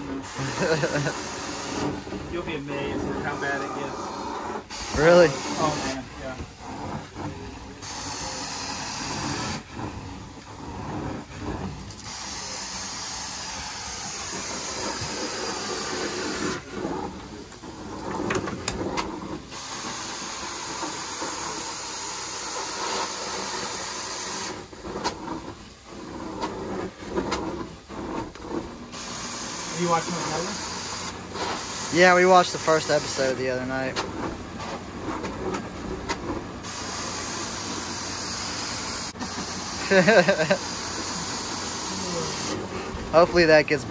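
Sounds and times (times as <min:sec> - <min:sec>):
carpet cleaning wand hissing: 0:00.0 - 0:34.8, 0:36.6 - 0:43.9.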